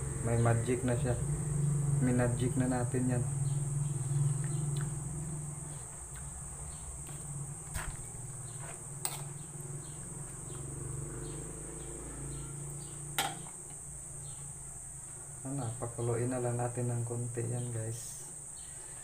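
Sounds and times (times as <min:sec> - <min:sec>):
low hum: 0:00.0 - 0:17.4
insect trill: 0:00.0 - 0:19.0.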